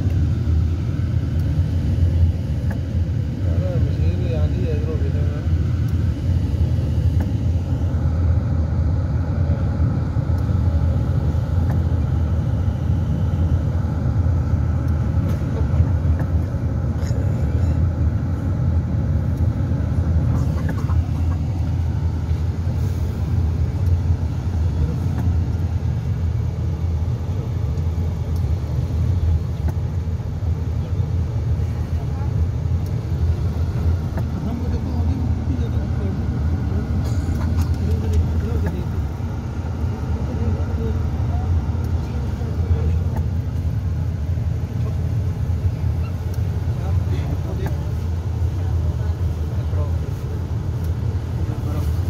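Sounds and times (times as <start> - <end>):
engine and road rumble: 0.0 - 52.0.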